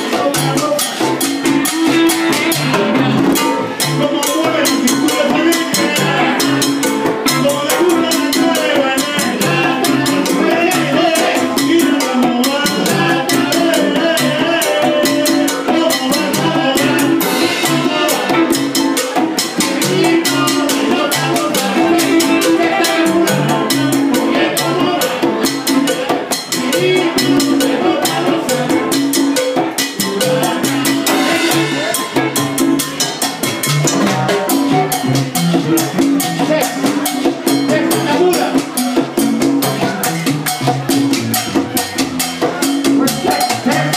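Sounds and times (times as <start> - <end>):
latin percussion: 0.0 - 43.9
salsa band playing: 0.0 - 43.9.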